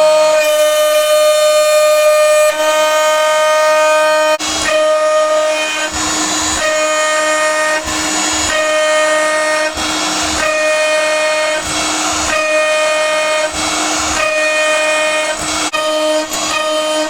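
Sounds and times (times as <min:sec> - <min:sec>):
cutter rasping through metal: 0:00.0 - 0:17.0
high-pitched spindle cutting tone: 0:00.0 - 0:17.0.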